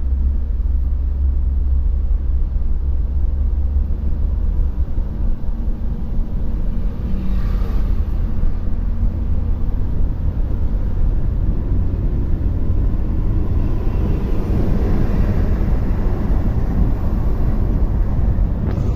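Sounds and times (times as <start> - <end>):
bus engine and tyres rumbling: 0.0 - 18.9.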